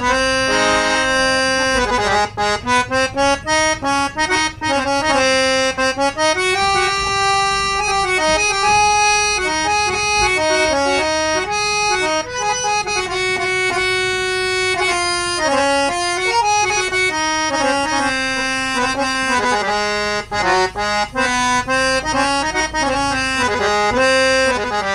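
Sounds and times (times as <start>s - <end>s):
harmonium playing a melody: 0.0s - 24.9s.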